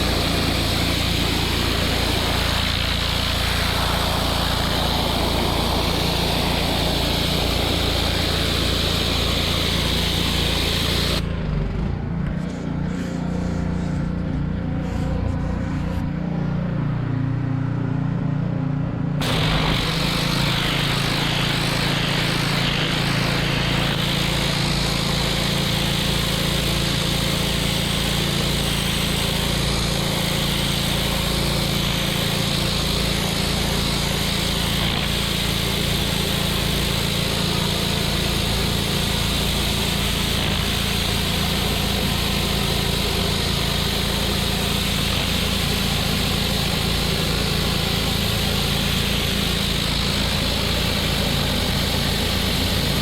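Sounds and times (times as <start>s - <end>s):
high-pressure water jet hissing: 0.0s - 11.3s, 19.2s - 53.0s
pressure washer engine running: 0.0s - 17.4s, 19.2s - 53.0s.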